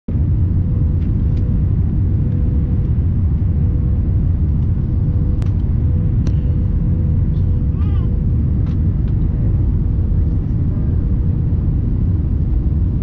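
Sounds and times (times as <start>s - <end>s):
faint hum: 0.1s - 13.0s
jet engine and airflow rumble: 0.1s - 13.0s.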